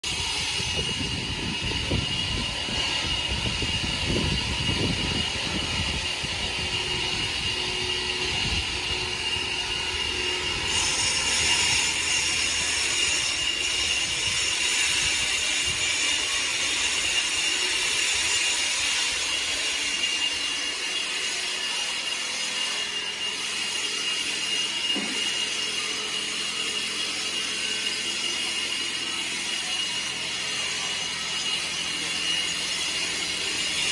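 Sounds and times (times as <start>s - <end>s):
high machine whine: 0.0s - 33.9s.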